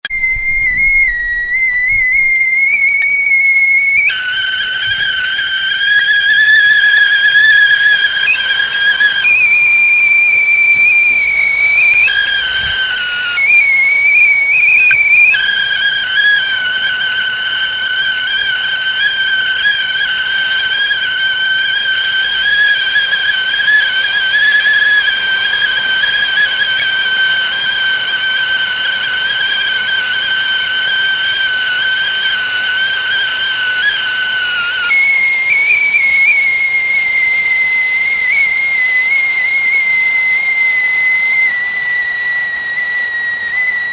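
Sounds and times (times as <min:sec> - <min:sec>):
teakettle whistling: 0:00.0 - 0:43.9
faint hiss of steam: 0:00.2 - 0:43.9.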